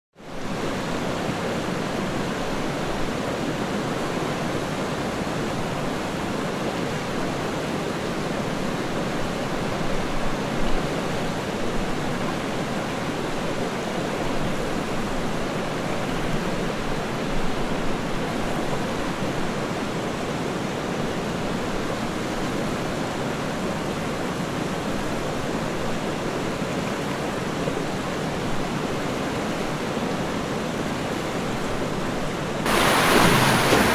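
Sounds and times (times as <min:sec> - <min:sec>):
river water rushing: 0:00.2 - 0:33.9.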